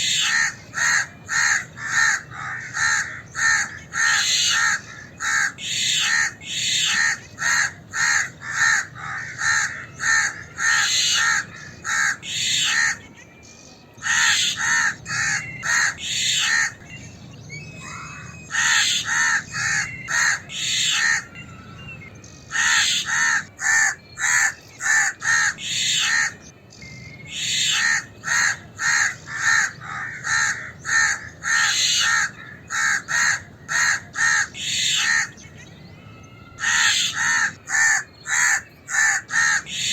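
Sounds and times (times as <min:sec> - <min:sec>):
crows cawing: 0:00.0 - 0:13.0, 0:14.0 - 0:16.8, 0:17.8 - 0:21.4, 0:22.5 - 0:26.4, 0:27.3 - 0:35.4, 0:36.6 - 0:39.9.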